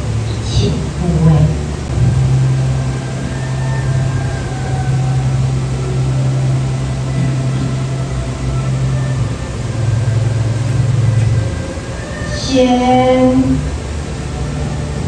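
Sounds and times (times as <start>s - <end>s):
loud low steady hum: 0.0s - 15.0s.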